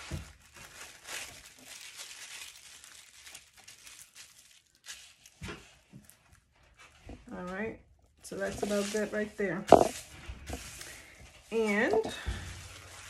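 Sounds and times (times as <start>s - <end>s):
tissue paper rustling and crinkling: 0.0s - 13.0s.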